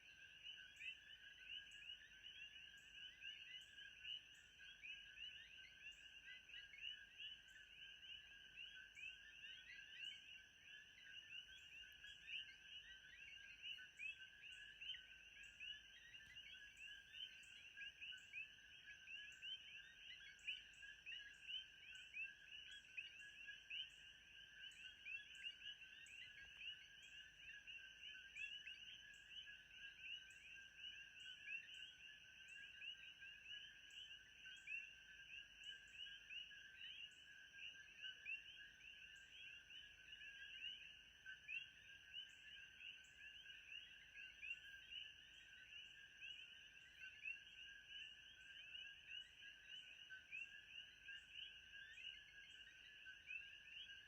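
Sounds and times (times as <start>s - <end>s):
frogs chirping: 0.0s - 54.0s.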